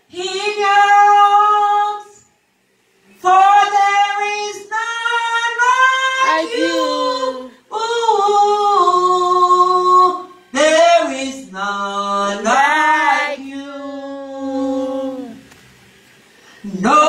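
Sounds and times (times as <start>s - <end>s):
woman singing unaccompanied: 0.0s - 2.3s, 3.2s - 15.4s, 16.6s - 17.0s.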